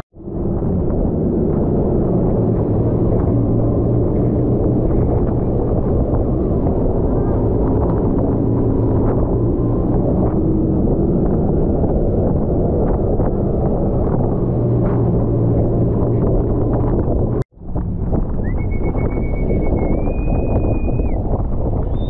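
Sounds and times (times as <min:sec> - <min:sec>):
wind buffeting microphone: 0:00.2 - 0:22.0.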